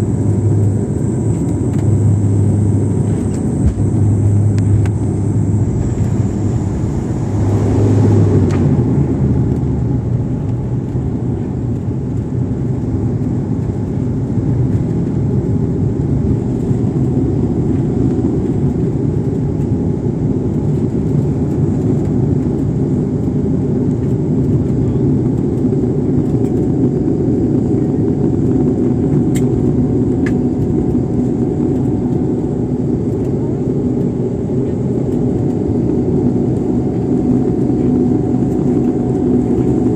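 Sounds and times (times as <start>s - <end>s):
airliner engine and airflow rumble: 0.0s - 39.9s.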